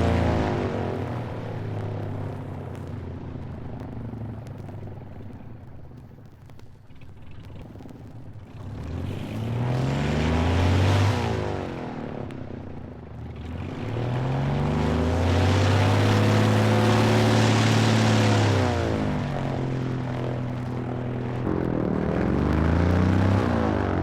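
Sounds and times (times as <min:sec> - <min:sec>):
propeller aircraft engine revving: 0:00.0 - 0:24.0.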